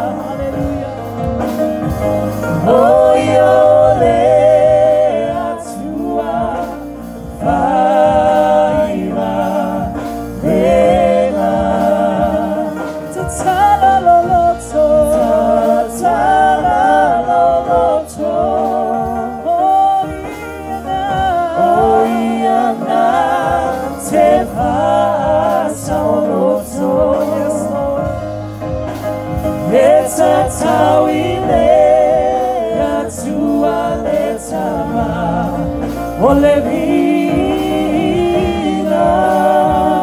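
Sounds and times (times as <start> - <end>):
woman singing gospel song: 2.5 - 28.3, 29.6 - 40.0.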